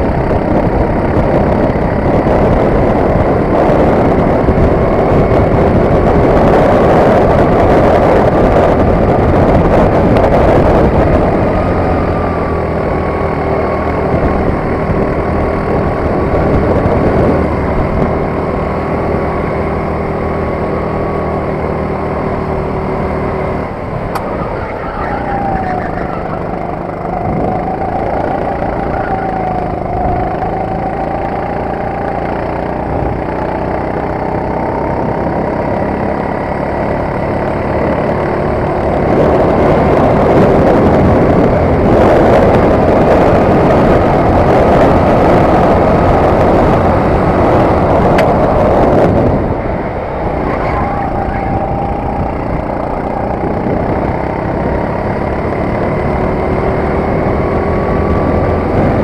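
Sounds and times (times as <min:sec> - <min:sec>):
kart engine running: 0:00.0 - 0:59.0.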